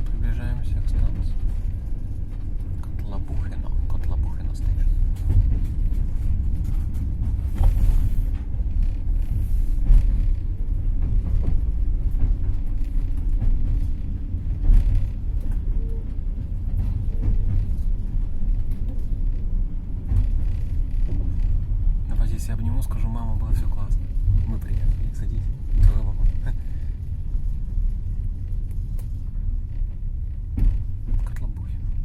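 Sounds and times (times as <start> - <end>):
train carriage rumbling on rails: 0.0 - 32.0.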